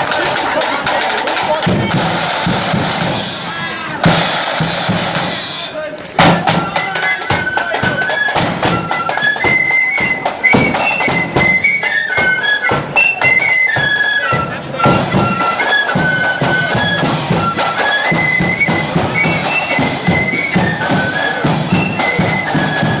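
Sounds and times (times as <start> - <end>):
side drums and bass drum beat: 0.0 - 23.0
flute melody: 1.3 - 23.0.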